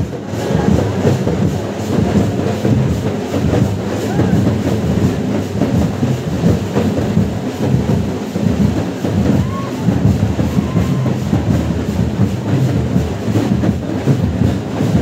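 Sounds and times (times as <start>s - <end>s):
continuous low rumble: 0.0s - 15.0s
crowd hubbub: 0.0s - 15.0s.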